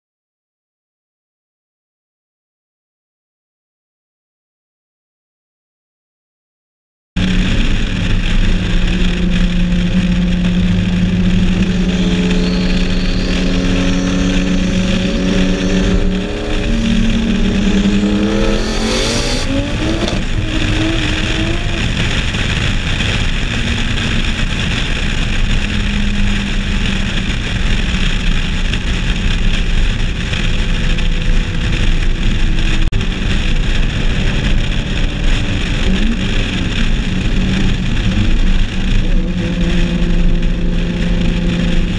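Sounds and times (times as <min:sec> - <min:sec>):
race car engines revving: 0:07.2 - 0:41.9
wind and road noise: 0:07.2 - 0:41.9.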